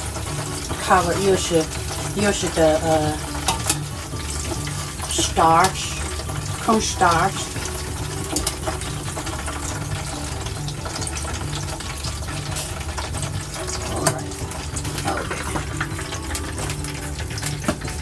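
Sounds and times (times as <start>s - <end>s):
metal skimmer clinking on pots: 0.0s - 18.0s.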